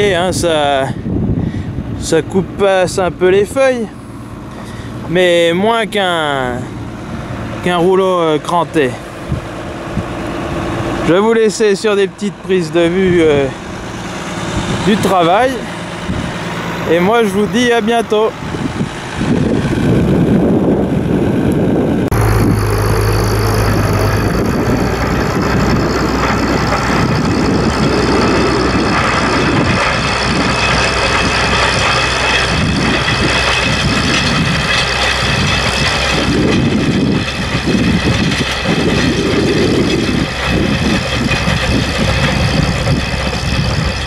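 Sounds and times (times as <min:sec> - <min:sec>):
fluctuating low rumble: 0:00.0 - 0:44.0
tractor diesel engine running: 0:00.0 - 0:44.0.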